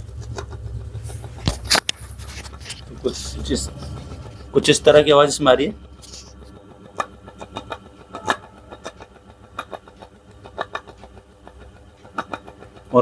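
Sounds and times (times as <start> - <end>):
ceiling fan humming: 0.0 - 13.0
sharp clicks from fan: 0.0 - 13.0.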